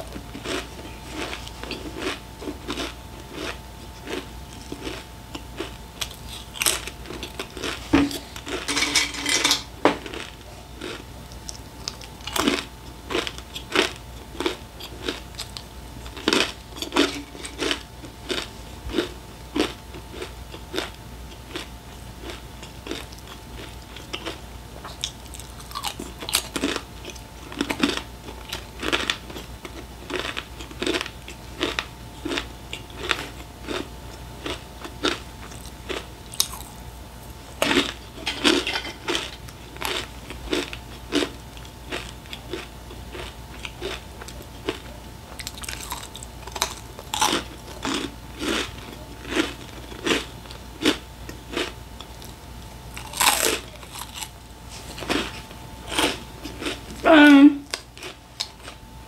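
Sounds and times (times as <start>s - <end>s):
person crunching crisp snacks: 0.0s - 58.8s
faint steady hum: 0.0s - 59.0s.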